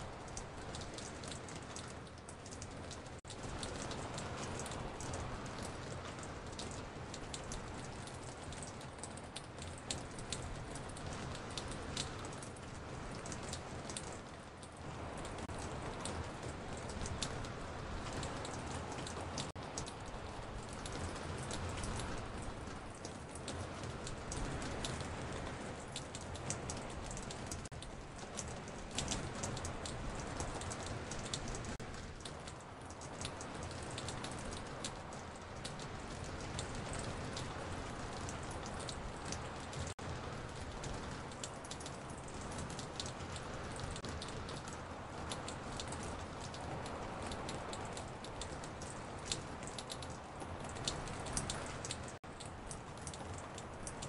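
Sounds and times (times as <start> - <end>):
raindrops ticking on porch: 0.0 - 54.0
steady hiss of rain: 0.0 - 54.0.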